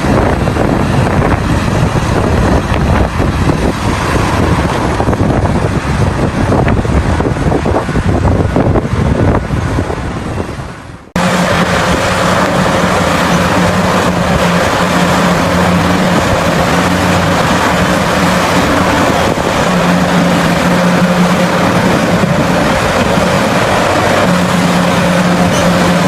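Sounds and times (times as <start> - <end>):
diesel engine running: 0.0 - 26.0
windy rumble: 0.0 - 26.0.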